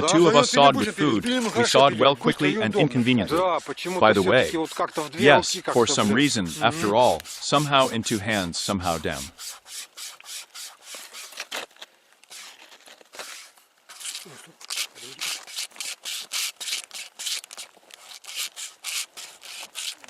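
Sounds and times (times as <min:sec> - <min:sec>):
saw rasping through wood: 0:00.6 - 0:11.7, 0:12.3 - 0:20.0.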